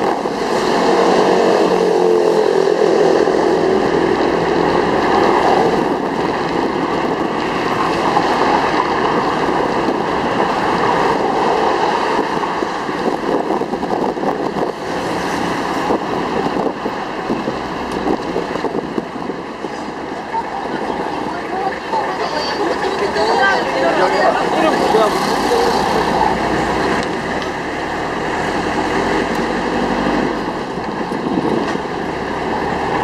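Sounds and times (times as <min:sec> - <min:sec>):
vehicle engine and road noise: 0:00.0 - 0:33.0
wind buffeting microphone: 0:00.0 - 0:33.0.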